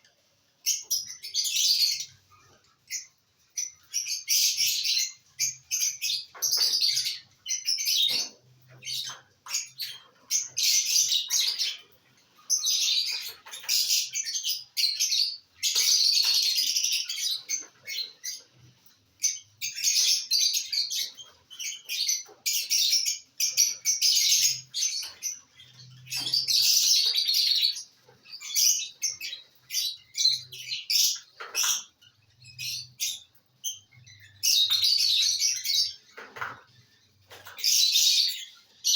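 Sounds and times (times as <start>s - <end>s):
parrots chattering: 0.6s - 38.9s.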